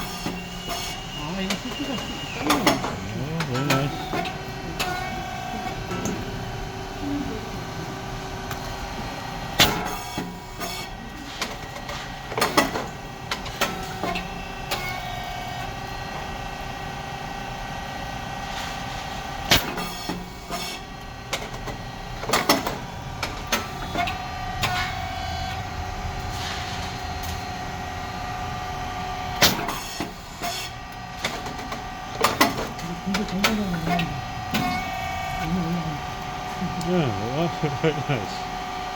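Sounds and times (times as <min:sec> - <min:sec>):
motor and pump hum: 0:00.0 - 0:38.9.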